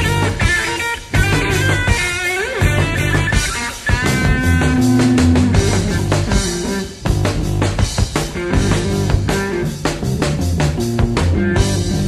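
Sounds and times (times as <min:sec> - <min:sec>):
bass guitar: 0:00.0 - 0:12.0
drum kit steady beat: 0:00.0 - 0:12.0
electric guitar: 0:00.0 - 0:12.0.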